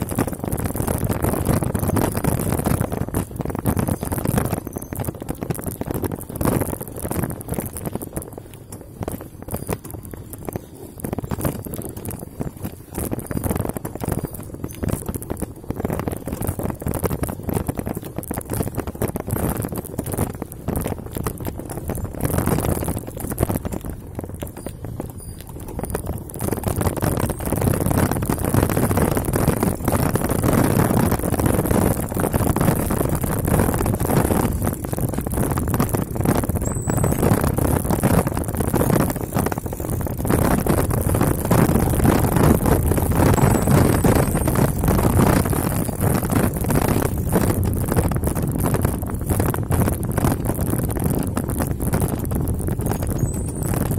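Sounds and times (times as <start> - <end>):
bike clattering and rattling: 0.0 - 53.9.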